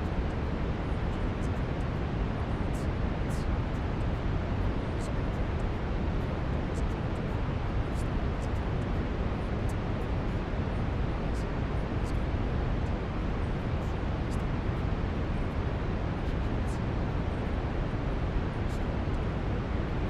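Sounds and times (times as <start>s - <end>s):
brown noise hiss: 0.0s - 20.0s.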